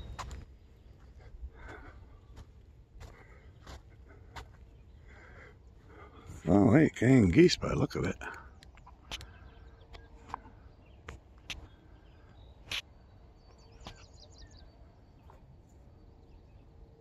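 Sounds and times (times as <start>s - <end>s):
faint songbird chirps: 0.0s - 17.0s.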